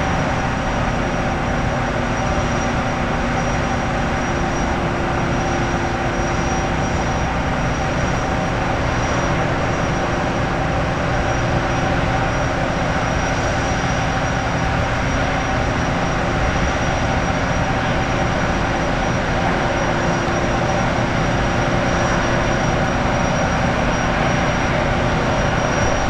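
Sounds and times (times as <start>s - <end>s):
gas turbine whine and rumble: 0.0s - 26.0s.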